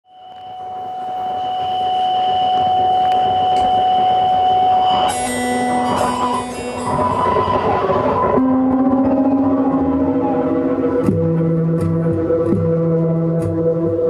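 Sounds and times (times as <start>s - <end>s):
keyboard drone: 0.1s - 14.0s.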